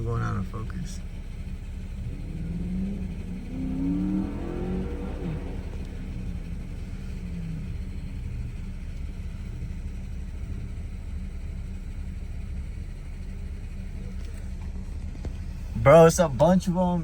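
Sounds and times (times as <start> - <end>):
deep car exhaust note: 0.0 - 17.0.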